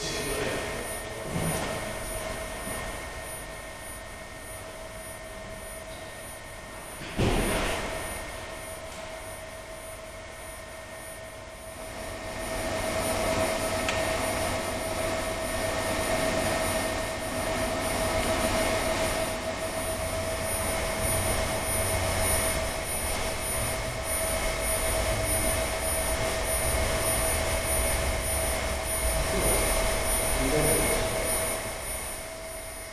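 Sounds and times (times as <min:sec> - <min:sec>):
constant whine: 0:00.0 - 0:32.9.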